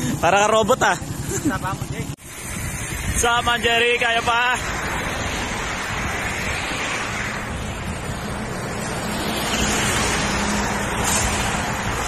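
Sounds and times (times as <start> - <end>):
traffic passing: 0.0 - 12.0
wind rush on microphone: 2.2 - 12.0.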